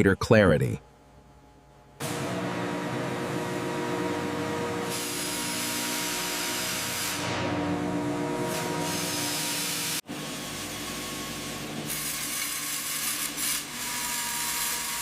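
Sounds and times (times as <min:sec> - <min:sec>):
factory machinery hiss and hum: 0:02.0 - 0:15.0.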